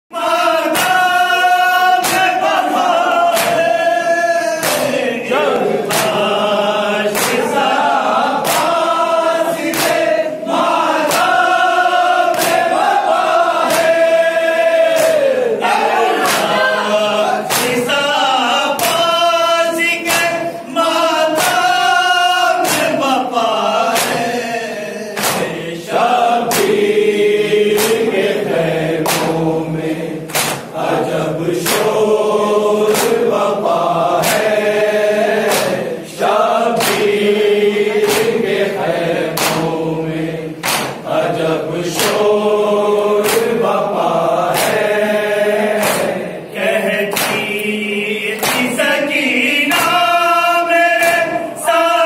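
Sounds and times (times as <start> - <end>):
men chanting a lament: 0.1 - 52.0
hands slapping chests: 0.6 - 50.2, 50.9 - 51.5.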